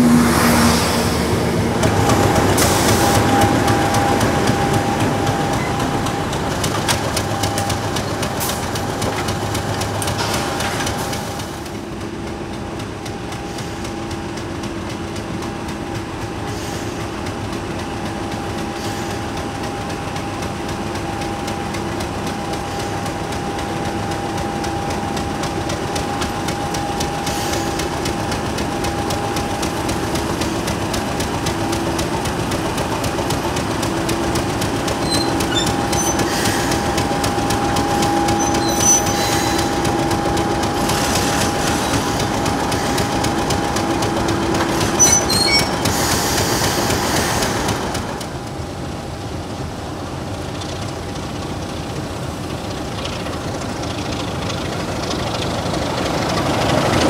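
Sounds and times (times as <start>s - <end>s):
diesel train running: 0.0s - 57.0s.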